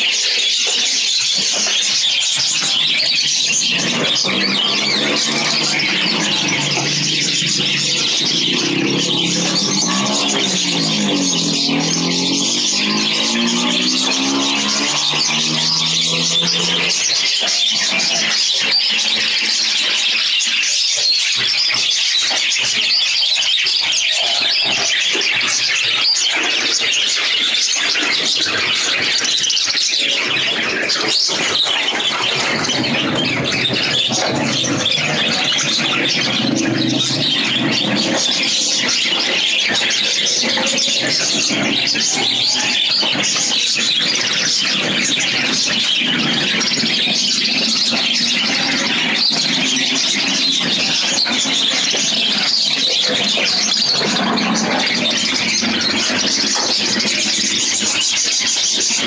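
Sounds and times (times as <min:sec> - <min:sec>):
birds chattering and screeching: 0:00.0 - 0:59.0.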